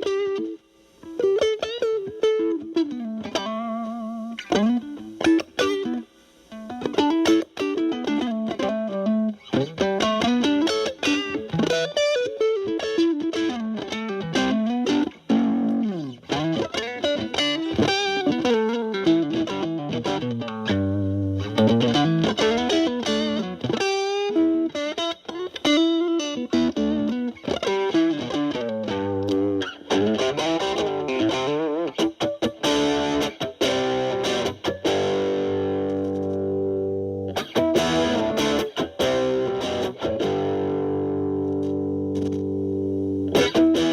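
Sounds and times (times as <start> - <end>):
distorted electric guitar lead: 0.0 - 43.9.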